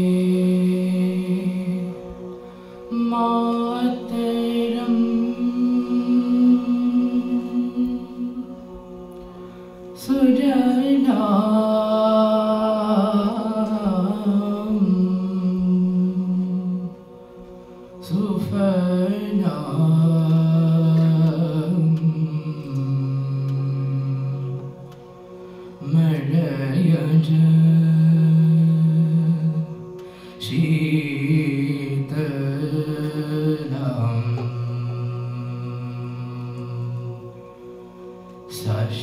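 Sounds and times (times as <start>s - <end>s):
male a cappella group singing: 0.0s - 17.1s, 17.9s - 39.0s.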